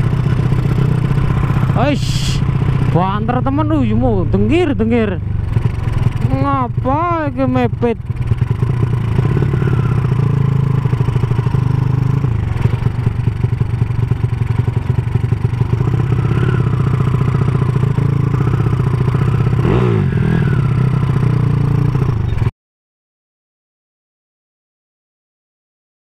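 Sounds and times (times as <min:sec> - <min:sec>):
motorcycle engine and exhaust: 0:00.0 - 0:22.5.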